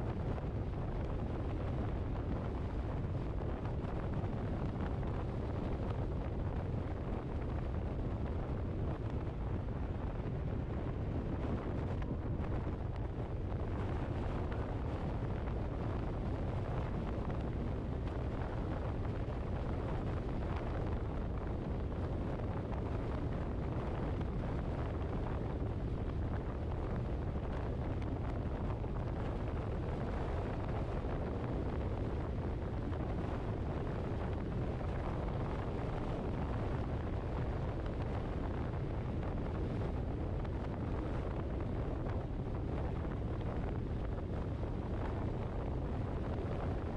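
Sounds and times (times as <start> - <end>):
wind noise on microphone: 0.0 - 46.9.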